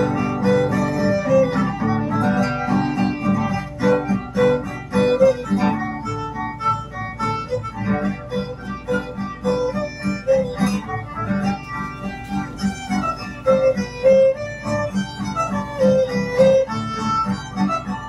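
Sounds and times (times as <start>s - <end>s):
fiddle playing lively melody: 0.0s - 18.0s
strummed guitar: 0.0s - 18.0s.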